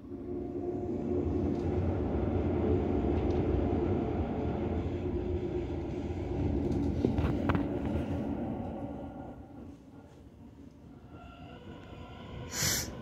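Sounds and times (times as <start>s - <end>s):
low hum: 0.0s - 13.0s
wheels rumbling on rails: 0.0s - 13.0s.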